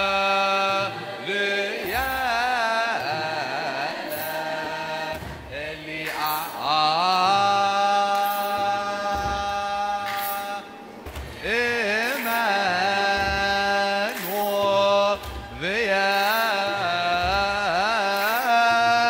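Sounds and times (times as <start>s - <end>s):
church choir chanting: 0.0s - 19.0s.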